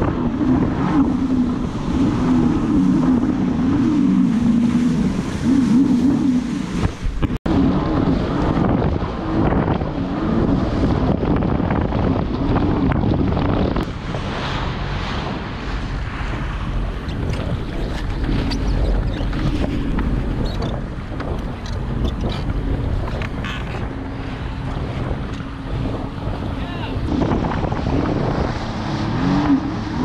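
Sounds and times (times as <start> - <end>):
jet ski engine: 0.0 - 30.0
rushing water: 0.0 - 30.0
wind buffeting microphone: 0.0 - 30.0.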